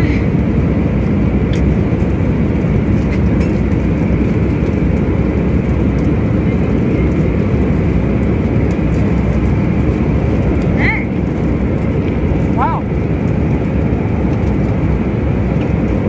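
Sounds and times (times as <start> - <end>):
jet engine cabin roar: 0.0 - 16.0.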